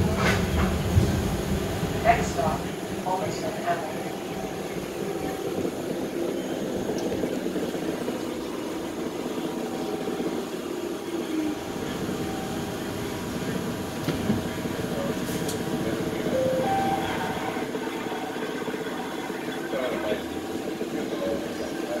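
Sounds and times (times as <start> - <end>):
streetcar motors and wheels rumbling: 0.0 - 22.0.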